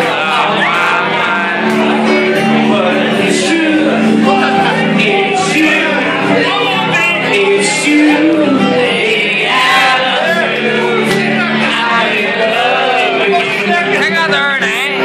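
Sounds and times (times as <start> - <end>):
loud pop backing track: 0.0 - 15.0
person singing karaoke: 0.0 - 15.0.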